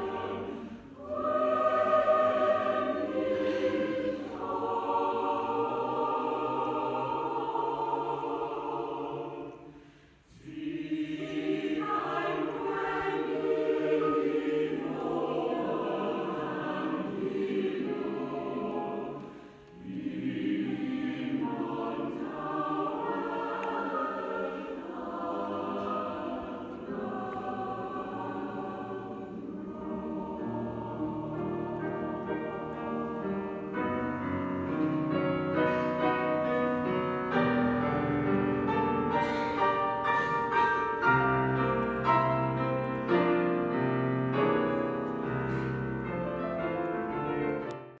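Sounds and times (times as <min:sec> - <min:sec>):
choir singing: 0:00.0 - 0:48.0.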